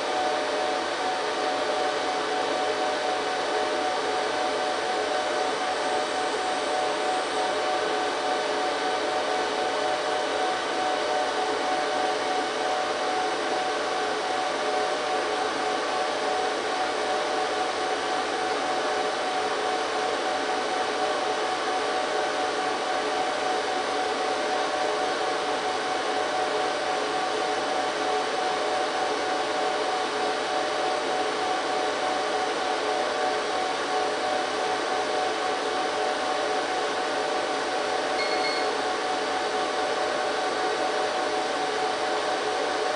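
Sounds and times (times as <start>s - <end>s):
server cooling fans whirring: 0.0s - 42.9s.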